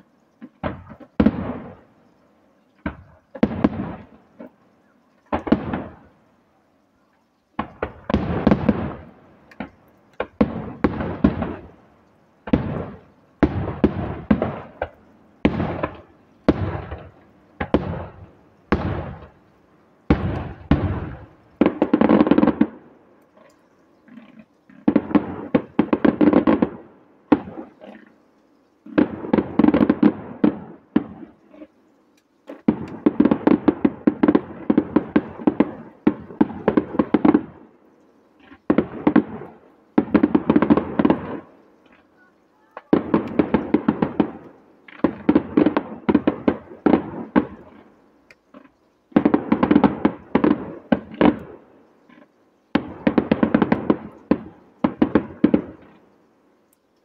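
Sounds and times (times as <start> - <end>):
fireworks bangs with echo: 0.0 - 1.9, 2.8 - 4.6, 5.3 - 6.2, 7.5 - 11.8, 12.4 - 19.4, 20.1 - 23.0, 24.1 - 28.1, 28.8 - 31.7, 32.5 - 37.8, 38.4 - 47.9, 48.5 - 56.0
rapid firework crackling: 0.0 - 57.0.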